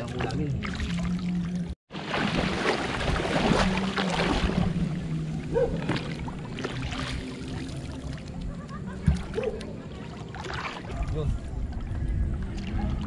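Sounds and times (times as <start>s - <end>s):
low steady hum: 0.0s - 13.0s
water sloshing and splashing: 0.0s - 13.0s.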